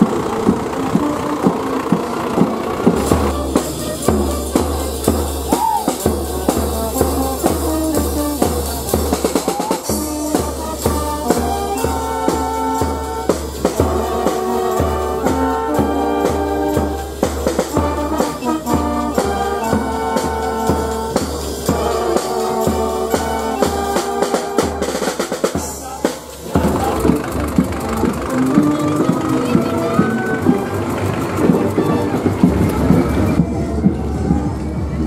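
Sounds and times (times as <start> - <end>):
brass band playing: 0.0 - 35.0
bass drum and snare beat: 0.5 - 35.0.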